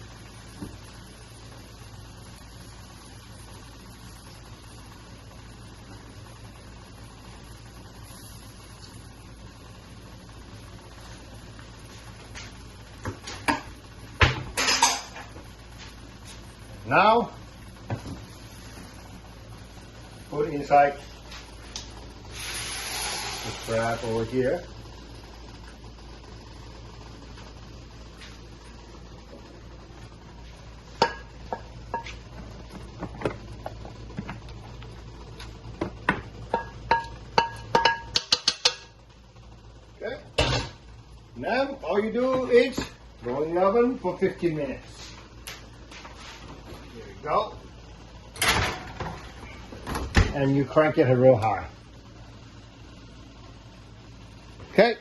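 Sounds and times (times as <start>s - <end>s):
low hum with faint hiss: 0.0s - 55.0s.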